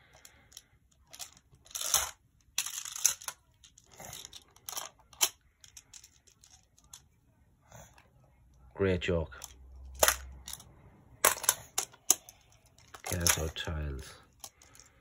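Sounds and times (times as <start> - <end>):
plastic tiles clacking: 0.0 - 7.0, 9.4 - 15.0.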